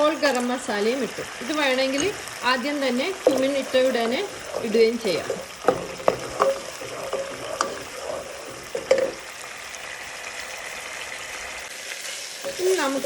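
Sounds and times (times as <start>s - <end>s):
spoon scraping a pan: 0.0s - 10.7s, 11.9s - 13.0s
spices sizzling in oil: 0.0s - 13.0s.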